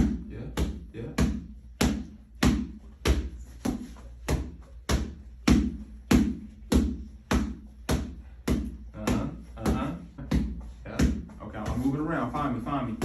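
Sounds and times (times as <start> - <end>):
sharp rhythmic thumps: 0.0 - 13.0.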